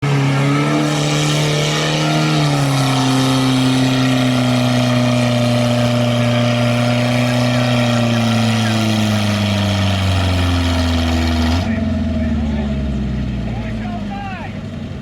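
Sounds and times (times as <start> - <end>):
vehicle engine running under load: 0.0 - 15.0.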